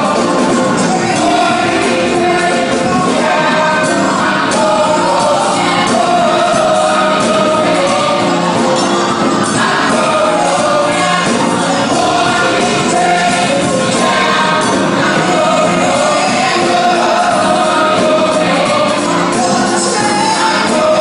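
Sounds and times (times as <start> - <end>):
gospel choir singing: 0.0 - 21.0
live band playing: 0.0 - 21.0.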